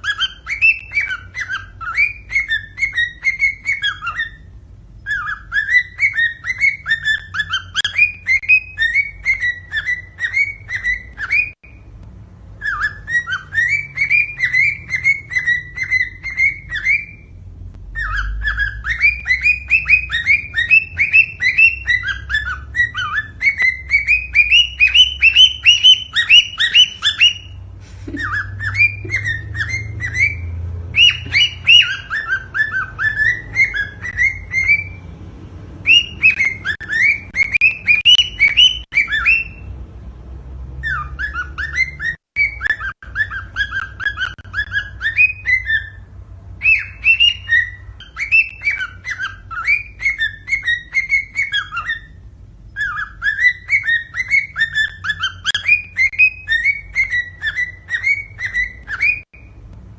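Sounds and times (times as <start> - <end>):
cockatiel whistling chirps: 0.0 - 11.9, 12.6 - 35.1, 35.8 - 39.7, 40.8 - 59.6.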